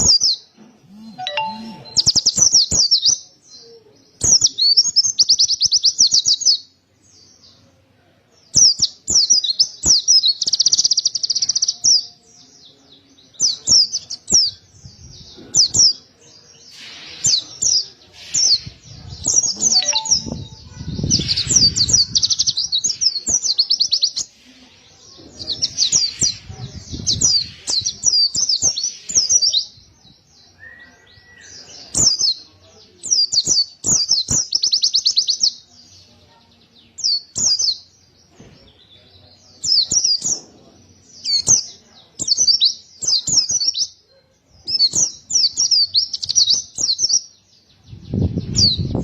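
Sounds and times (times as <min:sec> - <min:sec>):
bird twittering and trilling: 0:00.0 - 0:07.7, 0:08.5 - 0:49.0.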